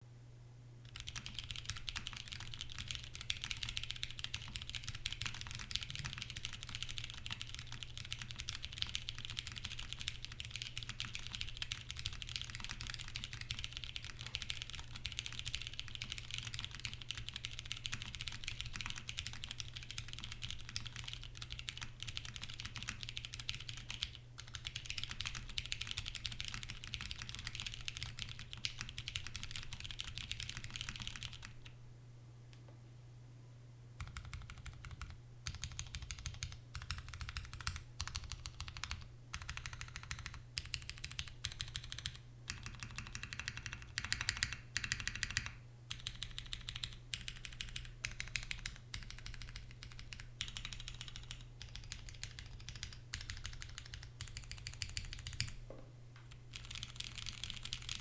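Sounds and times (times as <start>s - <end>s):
mechanical keyboard typing: 0.9s - 31.7s, 34.0s - 55.6s, 56.5s - 58.0s.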